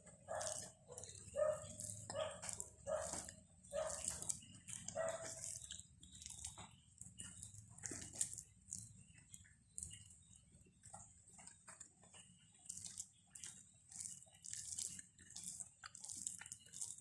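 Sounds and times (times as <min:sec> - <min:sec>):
pet chewing food: 0:00.0 - 0:17.0.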